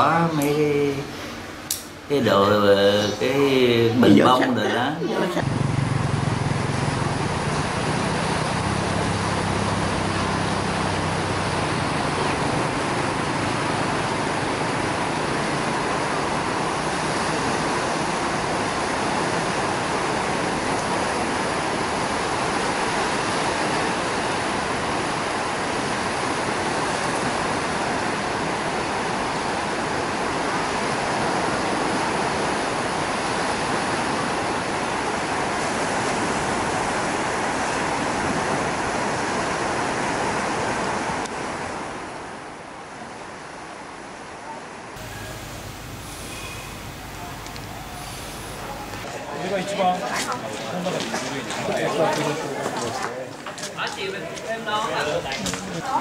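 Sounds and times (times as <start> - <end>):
waves breaking on a beach: 3.4 - 56.0.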